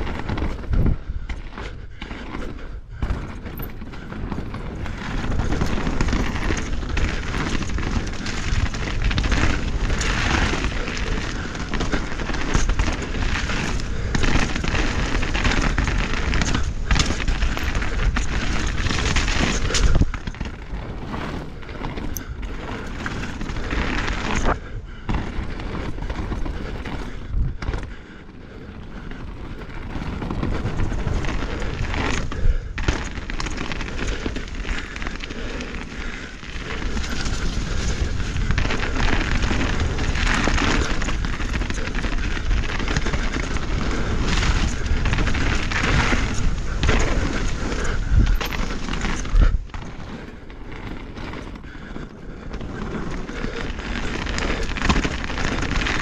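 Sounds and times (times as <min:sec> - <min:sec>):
bike knocks and rattles: 0:00.0 - 0:56.0
bike tyres crunching over dirt: 0:00.0 - 0:56.0
wind buffeting microphone: 0:00.0 - 0:56.0.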